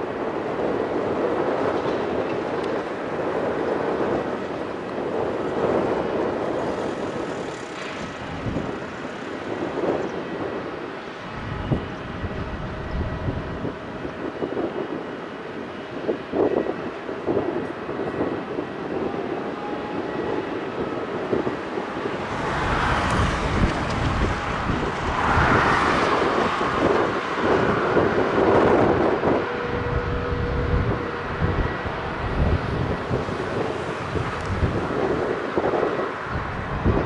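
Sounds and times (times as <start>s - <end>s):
jet engine rumble: 0.0s - 37.0s
wind buffeting microphone: 0.0s - 37.0s.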